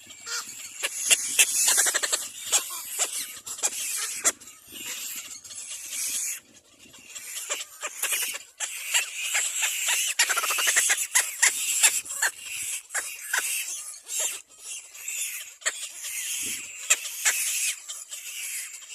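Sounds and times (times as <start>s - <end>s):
cormorant chicks squealing: 0.0s - 18.9s.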